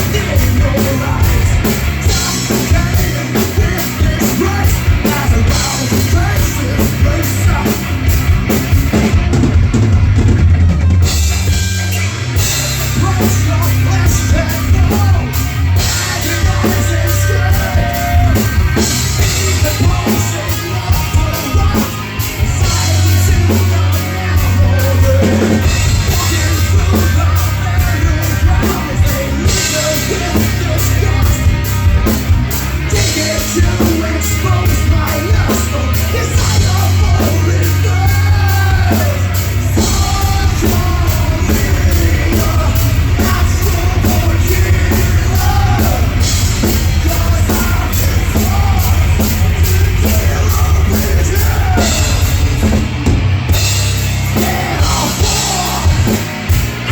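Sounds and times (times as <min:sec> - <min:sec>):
heavy metal band playing: 0:00.0 - 0:56.9.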